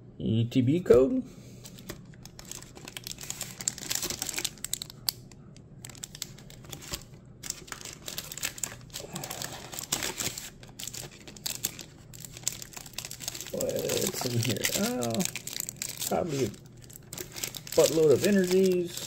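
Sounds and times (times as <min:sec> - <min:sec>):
foil wrappers crinkling: 0:01.6 - 0:19.0.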